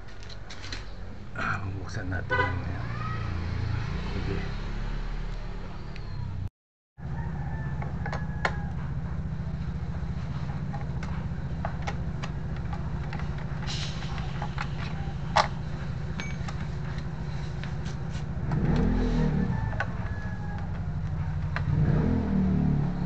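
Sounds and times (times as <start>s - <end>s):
engine droning: 0.0s - 23.0s.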